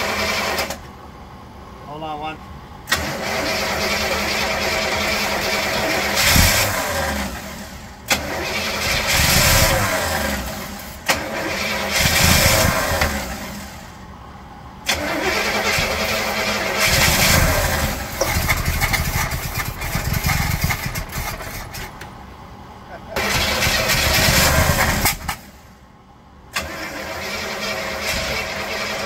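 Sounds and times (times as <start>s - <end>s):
engine cranking on starter: 0.0s - 1.0s, 2.8s - 14.0s, 14.8s - 22.1s, 23.1s - 25.7s, 26.5s - 29.0s.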